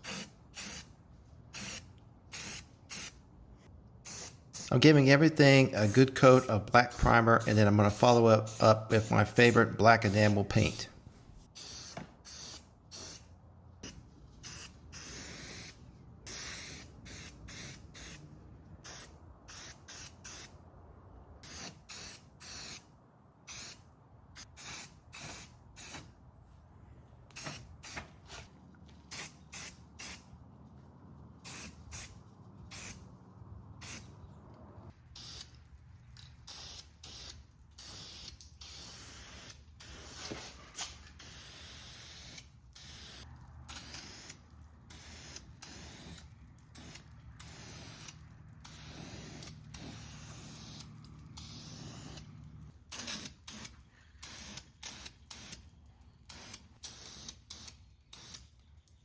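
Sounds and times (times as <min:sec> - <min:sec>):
spray paint hissing: 0:00.0 - 0:03.2, 0:04.0 - 0:10.8, 0:11.4 - 0:18.2, 0:18.8 - 0:20.6, 0:21.4 - 0:22.9, 0:23.5 - 0:26.1, 0:27.3 - 0:30.3, 0:31.4 - 0:34.1, 0:35.2 - 0:35.8, 0:36.4 - 0:52.3, 0:52.9 - 0:55.6, 0:56.3 - 0:58.5.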